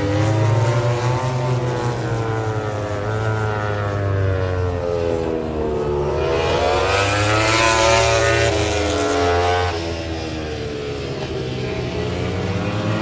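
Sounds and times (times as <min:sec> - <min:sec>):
racing motorcycle engines passing: 0:00.0 - 0:13.0.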